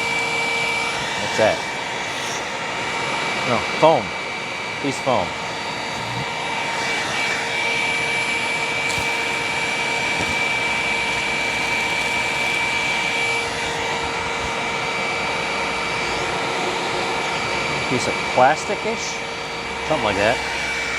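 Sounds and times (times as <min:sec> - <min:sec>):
vacuum cleaner whining: 0:00.0 - 0:20.9.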